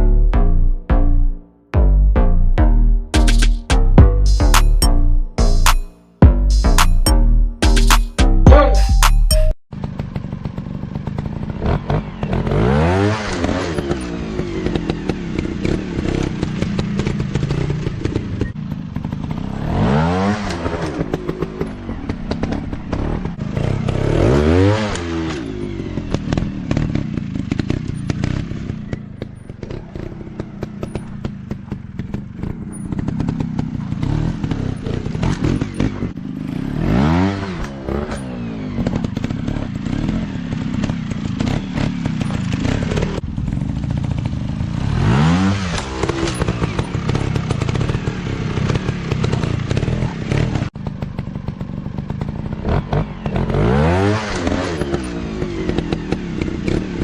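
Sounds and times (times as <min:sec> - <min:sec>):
bikes rattling over rough ground: 0:09.7 - 0:24.4, 0:25.0 - 0:57.0
off-road motorcycle engines revving: 0:09.8 - 0:57.0.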